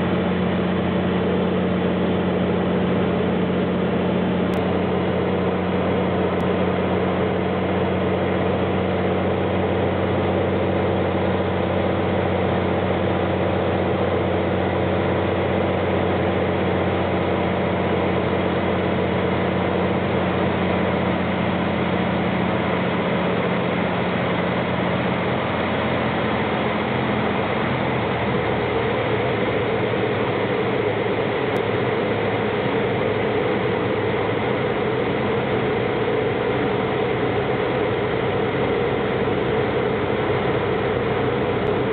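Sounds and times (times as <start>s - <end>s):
airplane engine and propeller droning: 0.0s - 41.9s.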